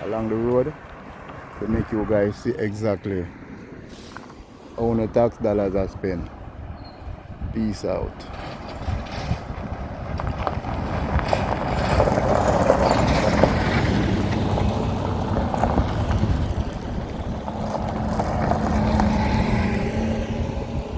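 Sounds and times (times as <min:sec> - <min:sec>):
vehicle engine rumbling: 0:00.0 - 0:20.9.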